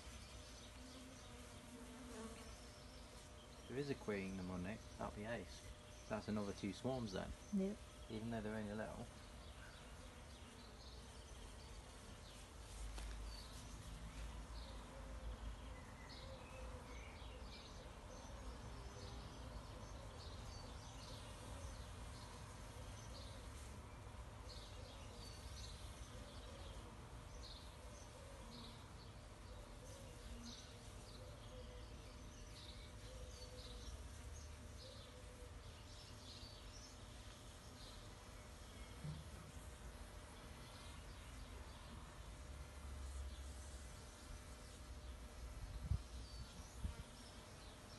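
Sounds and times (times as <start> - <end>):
bees buzzing: 0.0 - 47.9
birds chirping: 0.0 - 47.9.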